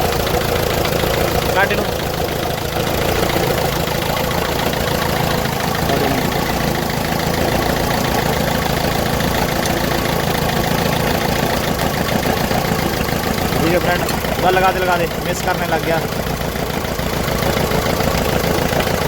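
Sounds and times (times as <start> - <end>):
diesel engine idling with a miss: 0.0 - 19.0.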